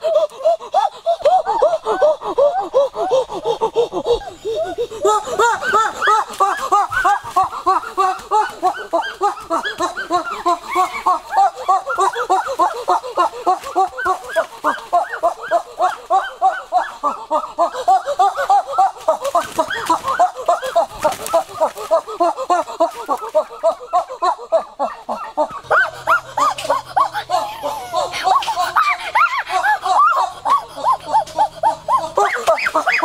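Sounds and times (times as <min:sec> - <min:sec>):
turkeys gobbling: 0:00.0 - 0:33.0.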